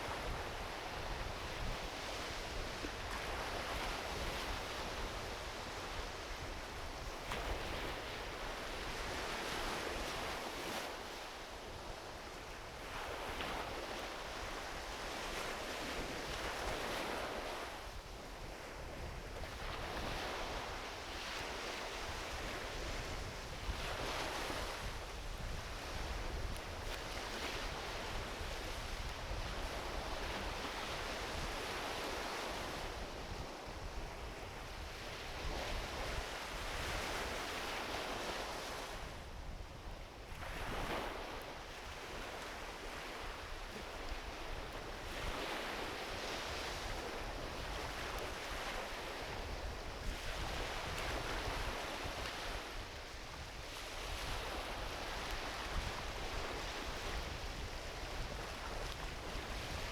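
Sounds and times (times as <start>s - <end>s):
ocean waves washing onto beach: 0.0s - 59.9s
wind rumble on microphone: 0.0s - 59.9s.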